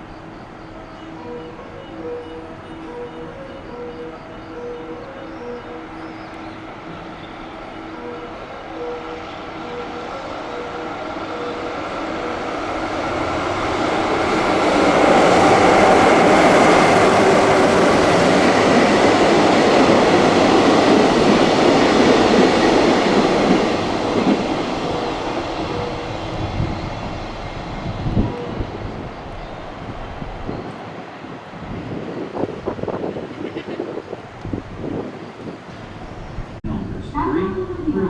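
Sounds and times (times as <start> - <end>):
electric train passing at speed: 0.0 - 38.0.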